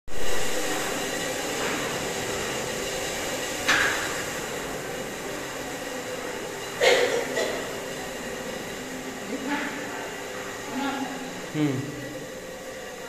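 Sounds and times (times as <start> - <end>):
room hiss: 0.1 - 13.0.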